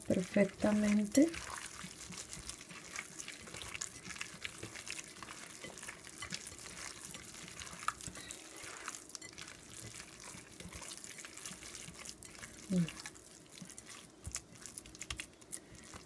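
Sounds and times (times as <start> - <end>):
hand squishing raw meat: 0.0 - 16.0.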